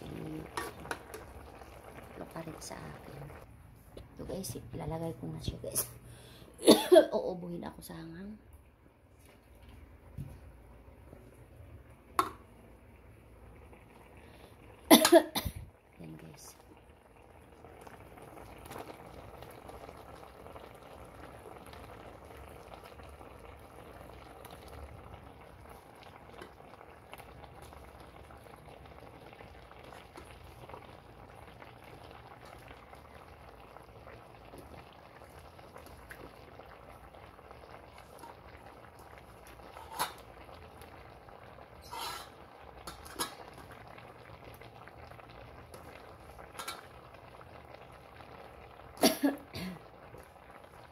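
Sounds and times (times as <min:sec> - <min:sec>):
sauce bubbling in a pan: 0:00.0 - 0:04.0, 0:08.5 - 0:50.9.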